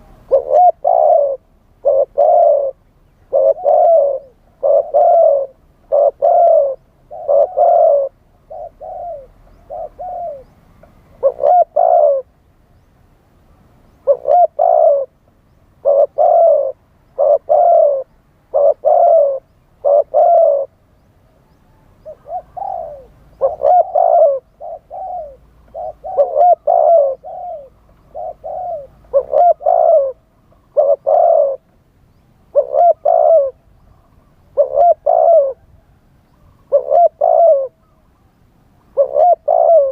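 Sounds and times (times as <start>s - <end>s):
dove cooing: 0.0s - 12.4s, 13.9s - 31.7s, 32.4s - 39.9s.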